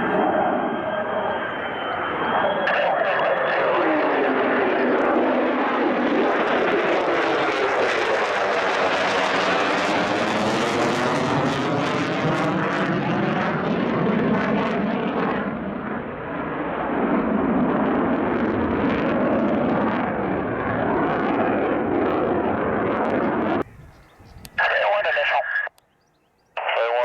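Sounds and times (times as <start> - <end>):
jet engine roar: 0.0 - 25.8, 26.6 - 27.0.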